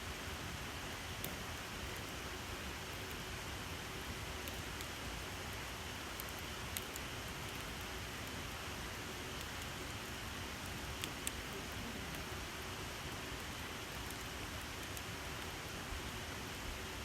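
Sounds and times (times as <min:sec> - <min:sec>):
campfire hissing: 0:00.0 - 0:17.0
sharp fire crackles: 0:00.1 - 0:17.0.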